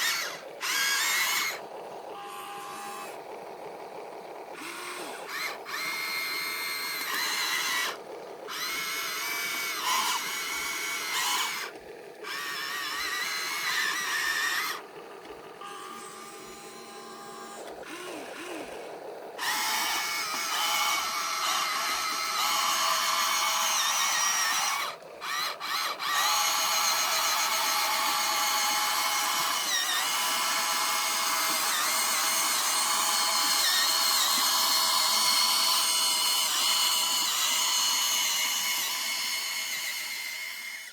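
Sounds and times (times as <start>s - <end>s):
toy truck electric motors whining: 0.0s - 40.9s.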